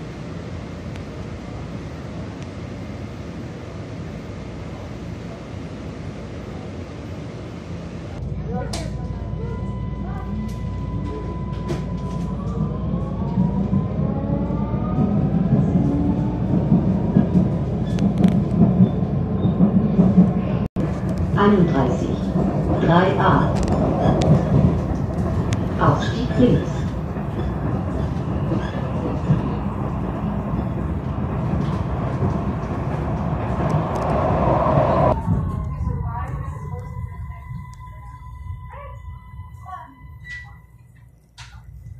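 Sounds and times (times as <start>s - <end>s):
wheels rumbling on rail: 0.0s - 41.9s.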